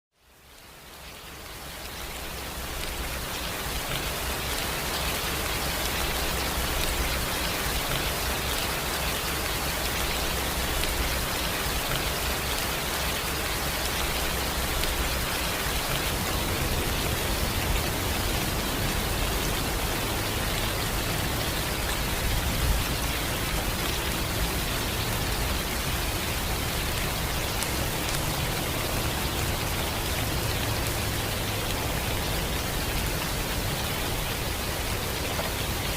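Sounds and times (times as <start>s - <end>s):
rain falling: 0.2s - 35.9s.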